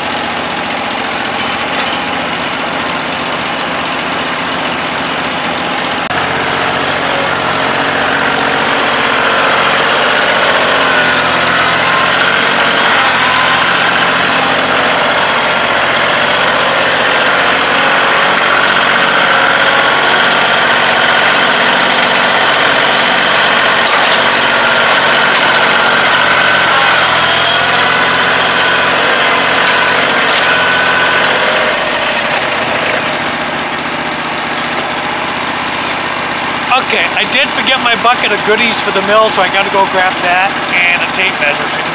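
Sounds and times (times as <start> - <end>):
gasoline engine running: 0.0 - 41.9.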